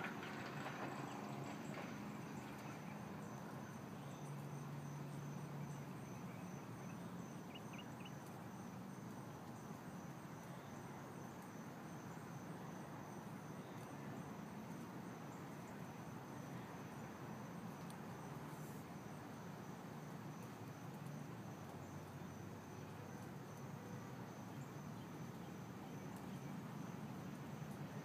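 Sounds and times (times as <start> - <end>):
outdoor hiss: 0.0 - 28.0.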